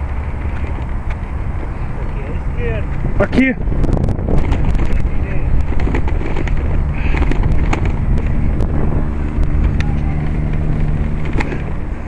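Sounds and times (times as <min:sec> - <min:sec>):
bicycle road rumble: 0:00.0 - 0:12.0
bike clicks and rattles: 0:00.0 - 0:12.0
low steady hum: 0:00.0 - 0:12.0
wind buffeting microphone: 0:00.0 - 0:12.0.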